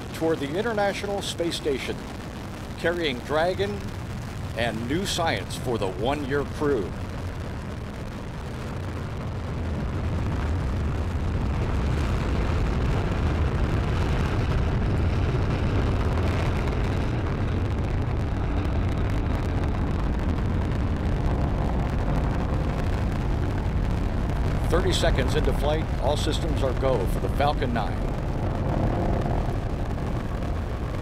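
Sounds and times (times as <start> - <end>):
rocket engines roaring: 0.0 - 31.0.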